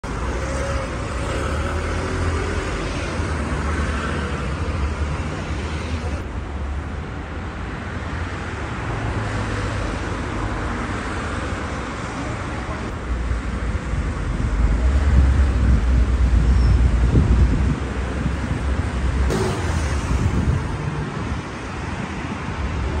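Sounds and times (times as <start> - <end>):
road vehicles passing: 0.0 - 23.0.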